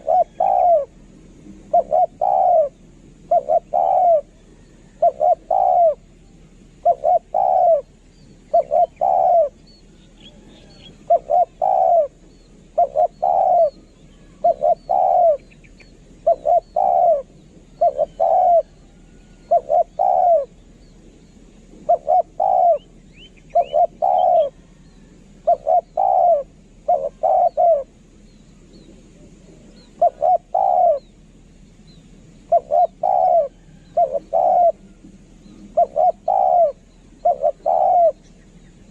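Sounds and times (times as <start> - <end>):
dove cooing: 0.0 - 21.1, 21.7 - 28.0, 28.7 - 31.2, 32.5 - 38.9
small birds chirping: 0.0 - 38.9.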